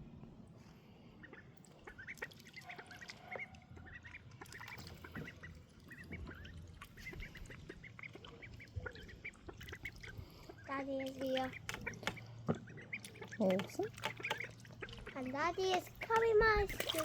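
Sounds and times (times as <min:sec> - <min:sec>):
ducklings peeping: 0:01.2 - 0:17.0.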